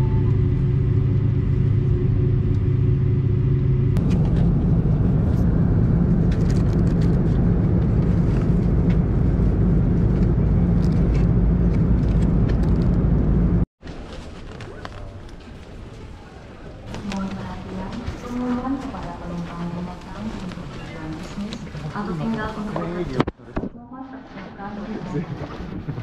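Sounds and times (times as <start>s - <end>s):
airliner cabin engine rumble: 0.0s - 23.5s, 24.4s - 26.0s.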